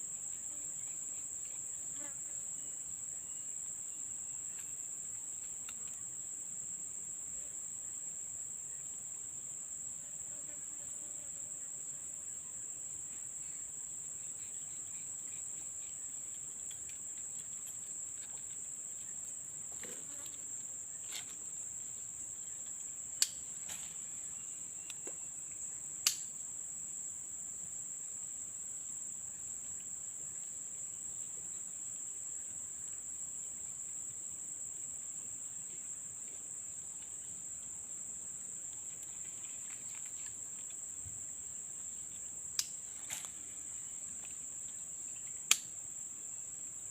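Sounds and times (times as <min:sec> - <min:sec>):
crickets trilling: 0:00.0 - 0:46.9.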